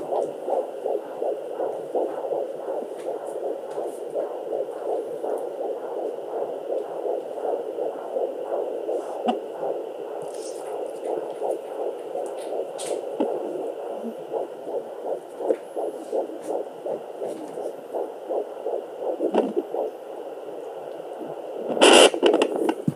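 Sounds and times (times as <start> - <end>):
faint steady hum: 0.0 - 22.9
fetal heartbeat on doppler: 0.0 - 22.9
probe scraping: 0.0 - 22.9.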